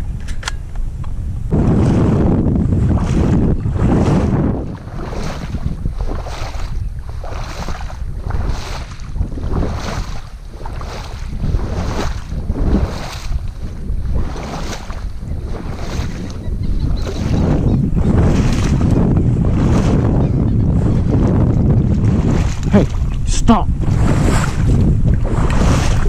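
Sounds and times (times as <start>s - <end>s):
boat moving through water: 0.0s - 26.0s
wind buffeting microphone: 0.0s - 26.0s
water swishing: 1.5s - 26.0s.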